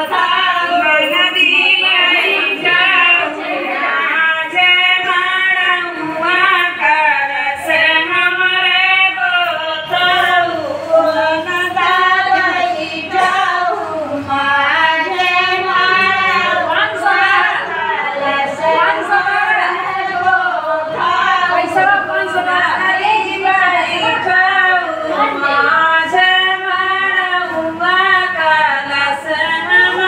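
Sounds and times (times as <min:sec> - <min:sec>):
women singing together: 0:00.0 - 0:30.0.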